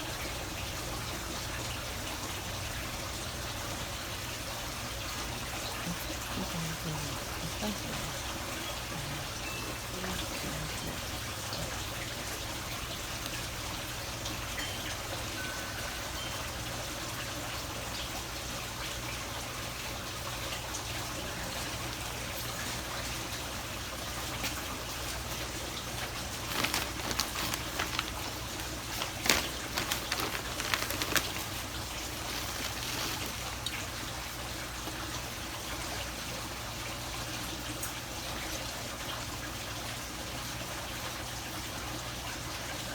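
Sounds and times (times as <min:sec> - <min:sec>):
trickle of running water: 0:00.0 - 0:42.9.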